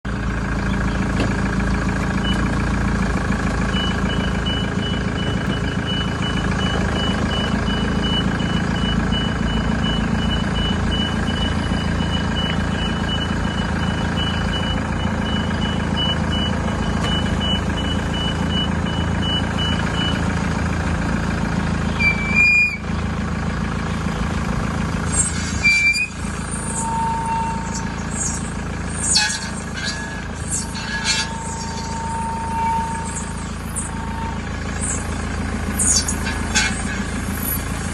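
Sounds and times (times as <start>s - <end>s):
car wheel drone: 0.1s - 37.9s.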